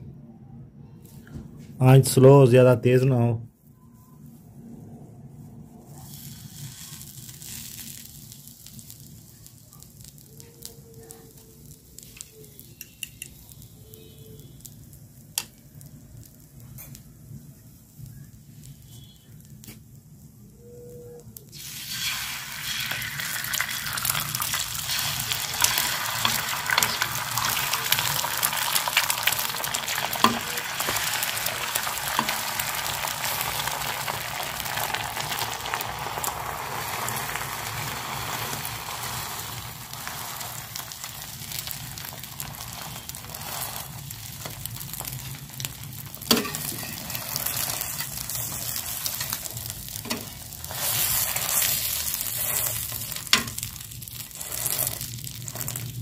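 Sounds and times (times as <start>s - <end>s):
eggs sizzling on a griddle: 5.6s - 56.0s.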